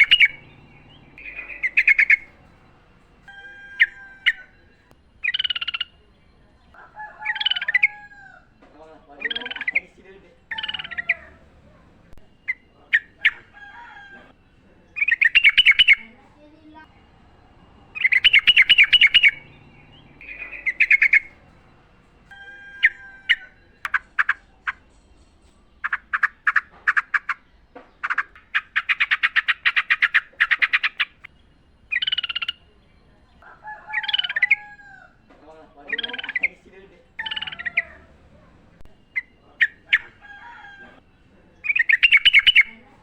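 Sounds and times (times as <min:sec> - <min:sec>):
bird warbling song: 0:00.0 - 0:43.0.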